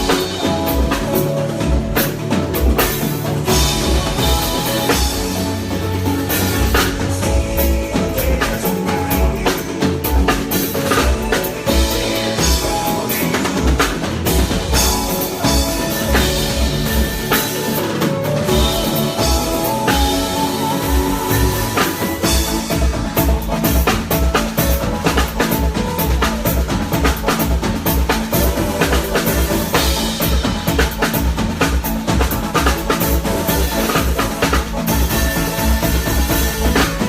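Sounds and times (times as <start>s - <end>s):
drum kit steady beat: 0.0s - 37.0s
live band playing: 0.0s - 37.0s.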